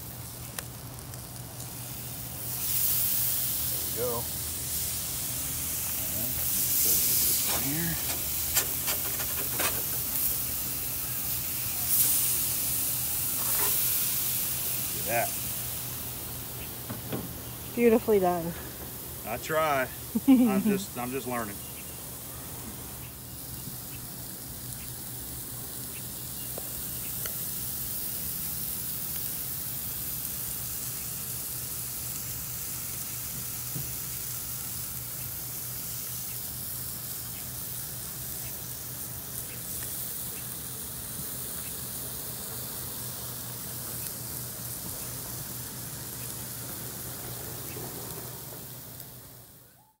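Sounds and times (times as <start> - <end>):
fish sizzling on a grill: 0.0 - 50.0.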